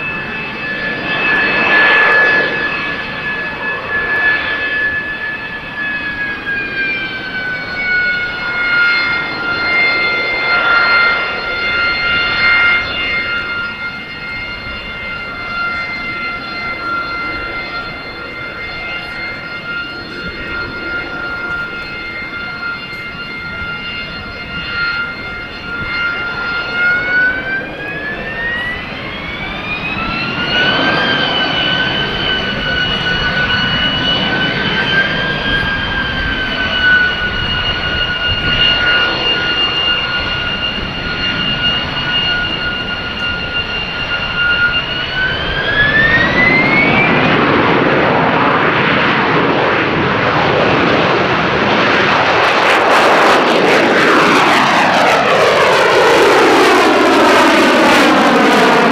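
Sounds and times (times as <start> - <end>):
jet engine whine: 0.0 - 58.9
jet roar: 0.0 - 58.9.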